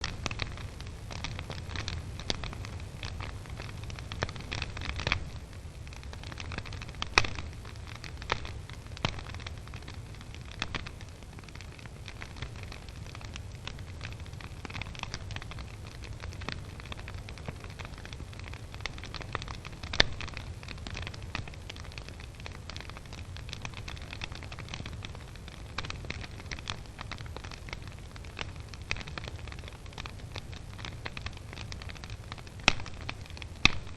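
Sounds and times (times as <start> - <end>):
fire low rumble: 0.0 - 33.9
sharp pops of fire: 0.0 - 33.9
wood fire crackling: 0.0 - 33.9.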